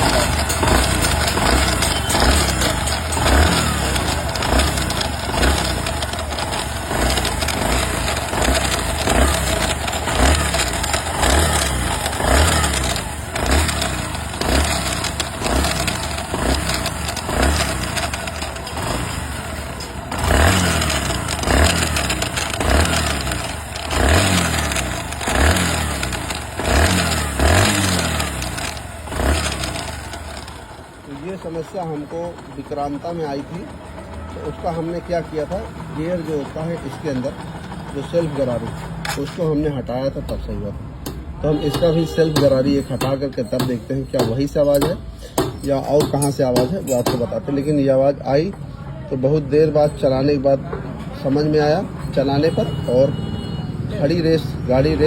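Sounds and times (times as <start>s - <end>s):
motorcycle engine revving: 0.0s - 48.2s, 51.2s - 55.0s.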